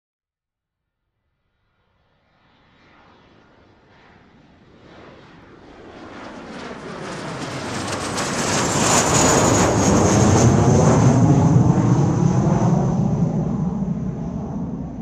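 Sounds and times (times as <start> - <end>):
high jet whine gliding down: 2.4 - 15.0
fighter jets roaring past: 2.6 - 15.0.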